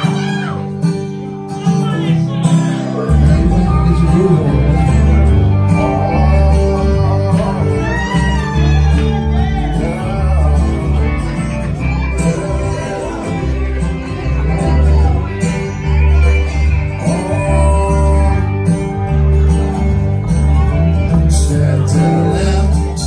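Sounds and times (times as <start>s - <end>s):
deep bass line: 2.2s - 23.0s.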